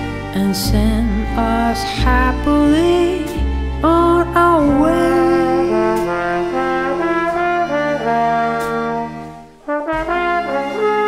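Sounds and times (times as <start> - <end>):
string backing: 0.0 - 11.0
trombone melody: 0.0 - 11.0.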